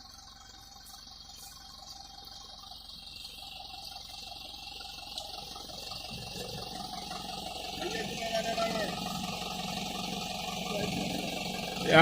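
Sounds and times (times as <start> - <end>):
distant tractor engine running: 0.0 - 12.0.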